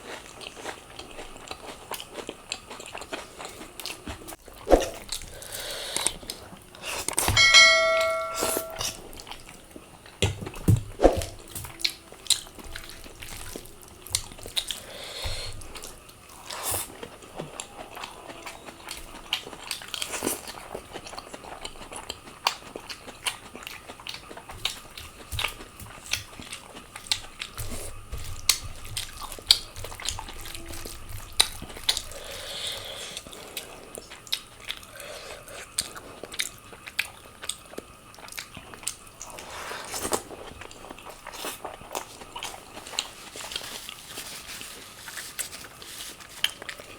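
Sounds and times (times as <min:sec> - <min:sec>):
chewing and biting: 0:00.0 - 0:07.3, 0:10.4 - 0:46.9.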